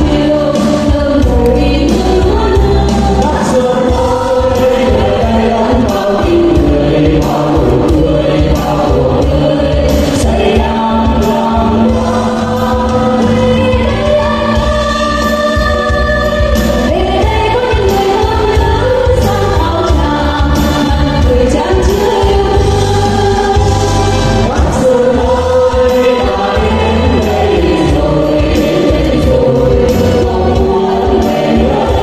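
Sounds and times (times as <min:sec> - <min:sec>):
amplified backing music: 0:00.0 - 0:32.0
mixed choir singing: 0:00.0 - 0:32.0.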